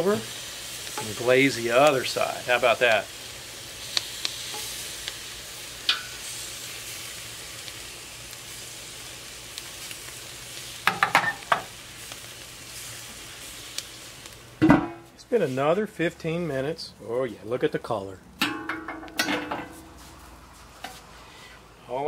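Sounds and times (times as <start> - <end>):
meat sizzling on a grill: 0.0 - 20.4.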